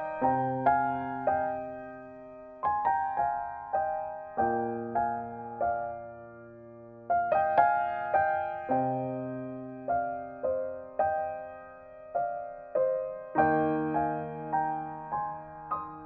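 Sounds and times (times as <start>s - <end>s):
soft slow piano: 0.0s - 16.0s.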